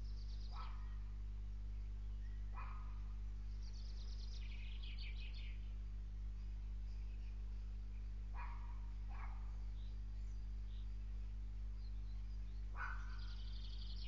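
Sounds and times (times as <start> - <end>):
faint bird calls: 0.0 - 14.0
low electrical hum: 0.0 - 14.0.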